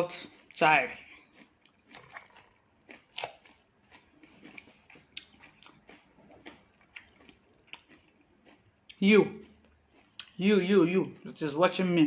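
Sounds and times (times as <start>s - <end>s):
chewing salad leaves: 0.0s - 12.0s.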